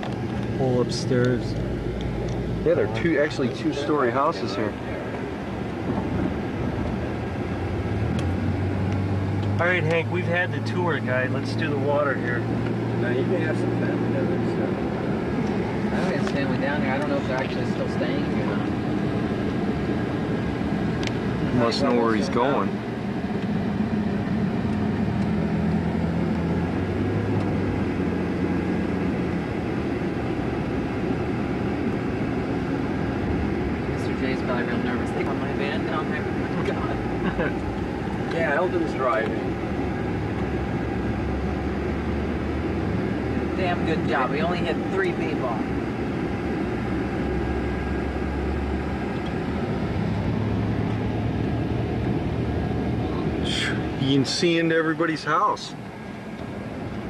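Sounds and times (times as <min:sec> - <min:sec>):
low engine hum: 0:00.0 - 0:57.0
road noise inside moving vehicle: 0:00.0 - 0:57.0.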